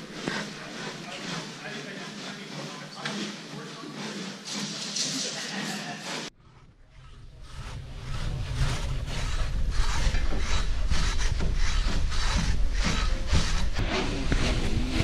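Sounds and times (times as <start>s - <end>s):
handsaw cutting wood: 0.0s - 6.4s, 7.0s - 15.0s.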